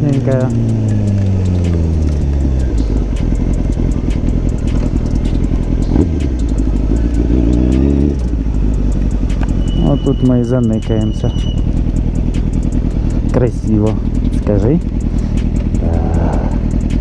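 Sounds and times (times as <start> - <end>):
motorcycle engine running: 0.0 - 17.0
sharp ticks: 0.0 - 17.0.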